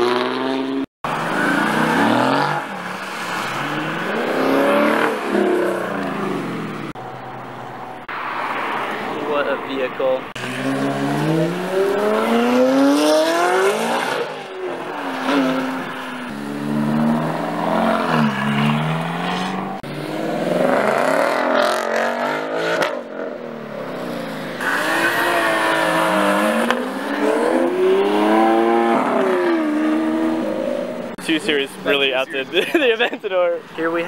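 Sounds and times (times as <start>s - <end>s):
sports cars accelerating: 0.0s - 9.6s, 10.3s - 32.3s.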